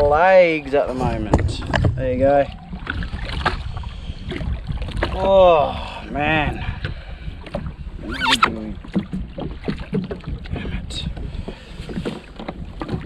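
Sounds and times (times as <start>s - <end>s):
water slapping against hull: 0.9s - 5.5s, 6.5s - 13.0s.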